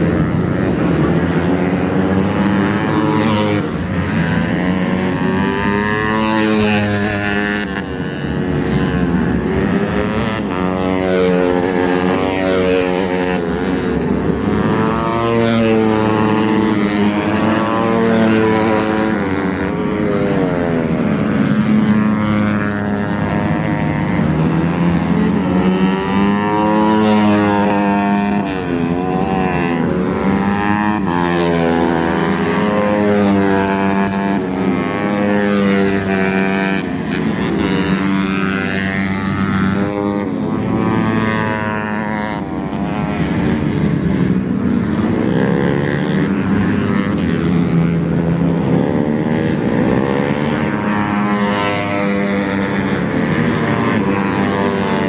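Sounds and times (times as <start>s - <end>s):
racing motorcycle engines revving: 0.0s - 55.0s.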